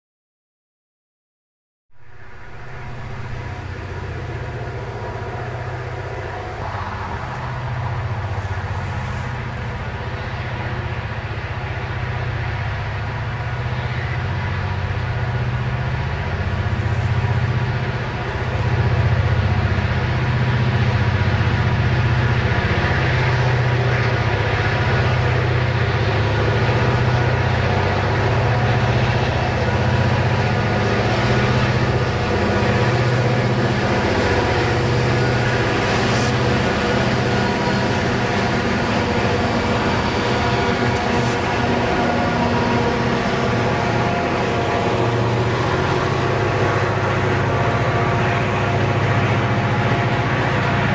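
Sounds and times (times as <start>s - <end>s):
locomotive engine throb: 2.0s - 50.9s.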